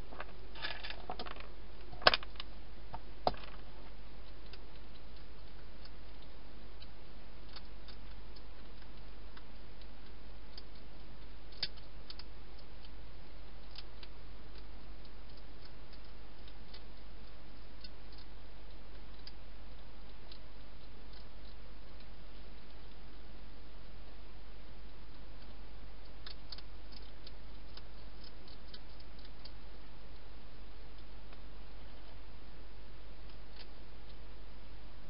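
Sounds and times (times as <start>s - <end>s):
hedgehog chewing clicks: 1.9s - 23.5s, 24.9s - 32.2s.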